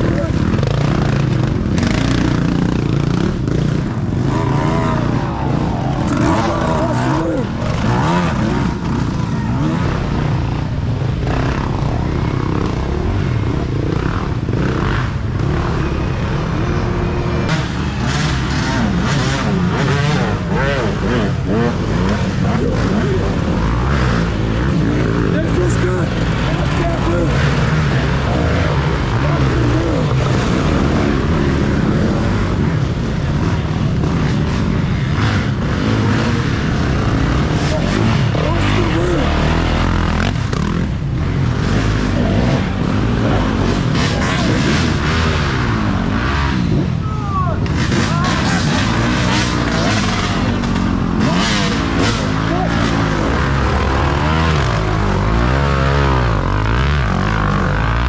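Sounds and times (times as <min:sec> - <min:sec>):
dirt bike engines running: 0:00.0 - 0:58.0.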